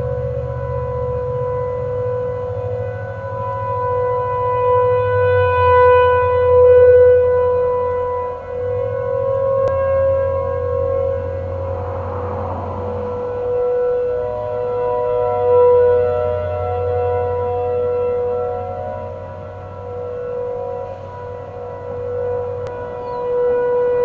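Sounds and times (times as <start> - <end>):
outdoor warning sirens: 0.0 - 24.0.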